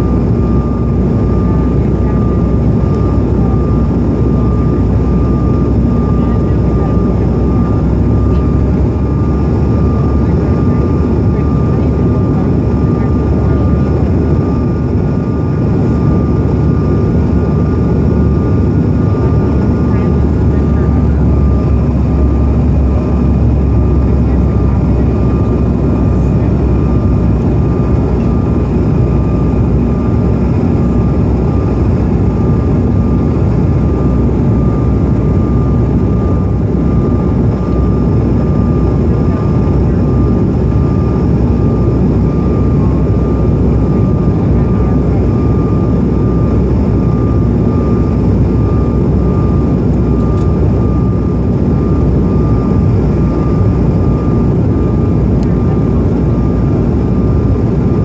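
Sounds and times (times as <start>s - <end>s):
jet cabin roar: 0.0s - 58.0s
thin steady whine: 0.0s - 58.0s.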